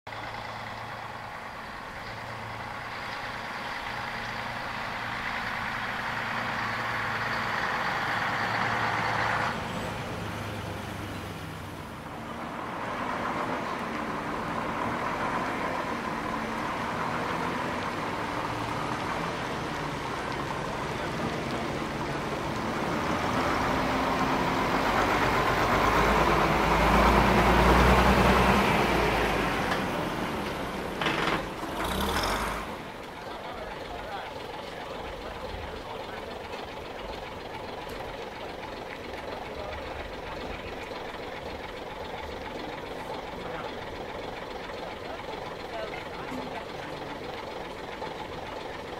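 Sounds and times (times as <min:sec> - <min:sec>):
bus engines running: 0:00.0 - 0:48.9.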